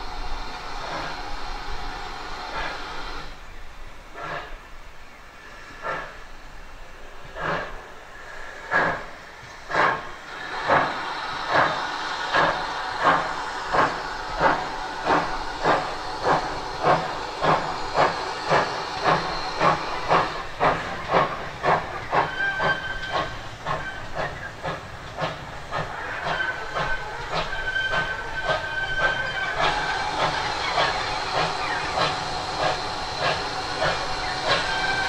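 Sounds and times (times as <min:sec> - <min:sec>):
steam hissing: 0:00.0 - 0:35.0
steam locomotive exhaust beats: 0:00.0 - 0:35.0.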